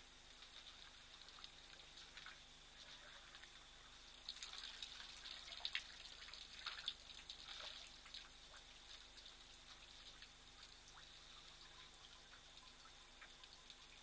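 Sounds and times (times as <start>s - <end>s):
water splashing and dripping: 0.2s - 14.0s.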